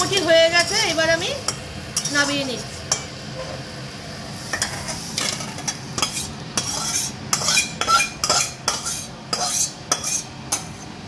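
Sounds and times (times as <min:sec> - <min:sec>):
metal spatula scraping: 0:00.1 - 0:03.7, 0:04.5 - 0:11.0.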